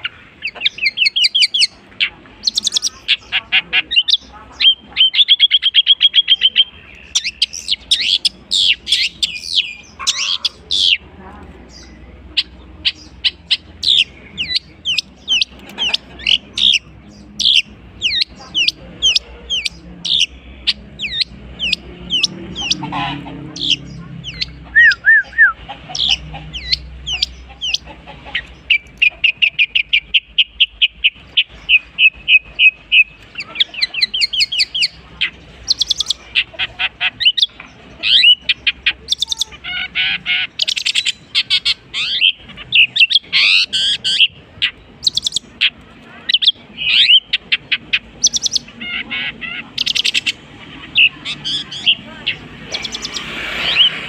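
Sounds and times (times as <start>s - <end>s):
shrike singing mimicked calls: 0.0s - 54.0s.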